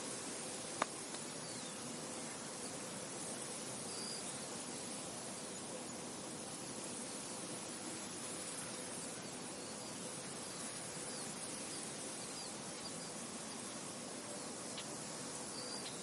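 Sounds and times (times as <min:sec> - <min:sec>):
insects buzzing: 0:00.0 - 0:16.0
wind hiss: 0:00.0 - 0:16.0.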